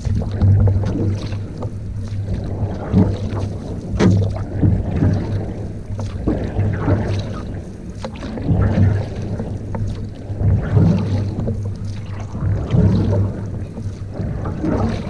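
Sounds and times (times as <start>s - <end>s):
paddle strokes splashing in water: 0.0s - 15.0s
wind rumble on microphone: 0.0s - 15.0s.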